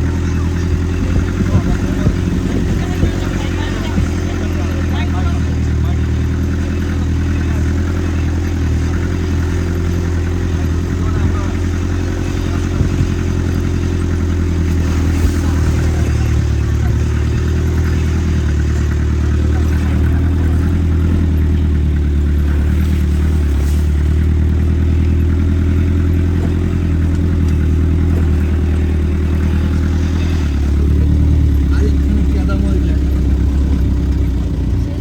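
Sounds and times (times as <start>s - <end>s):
vehicle engine drone: 0.0s - 35.0s.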